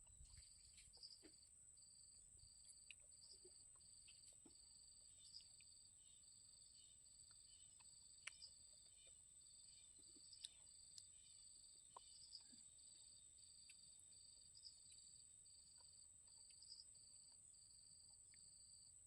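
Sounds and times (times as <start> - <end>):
pulsing insect chirp: 0.0 - 19.0.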